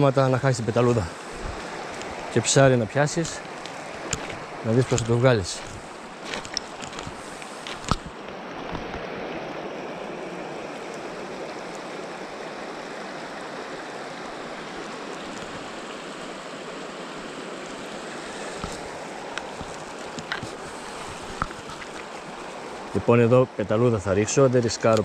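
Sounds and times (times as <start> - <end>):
river water running over stones: 0.0 - 25.0.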